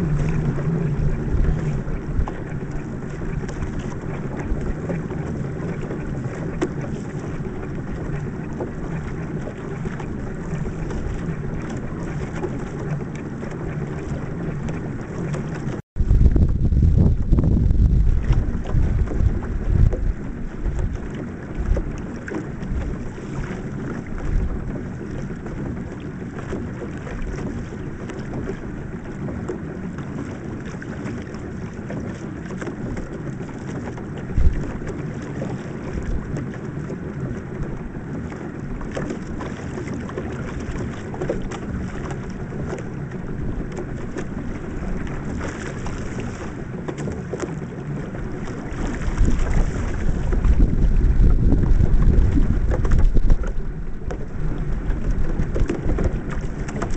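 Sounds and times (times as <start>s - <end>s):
wind buffeting microphone: 0.0s - 28.6s, 34.0s - 37.9s, 42.7s - 56.9s
water splashing and lapping at hull: 0.0s - 56.9s.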